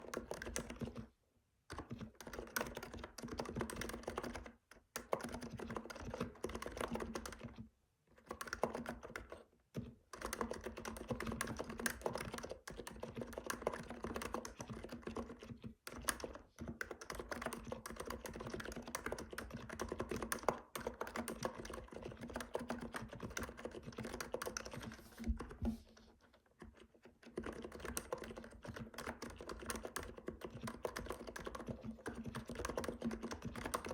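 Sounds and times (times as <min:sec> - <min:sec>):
fast keyboard typing: 0:00.0 - 0:01.1, 0:01.7 - 0:25.7, 0:26.6 - 0:33.9.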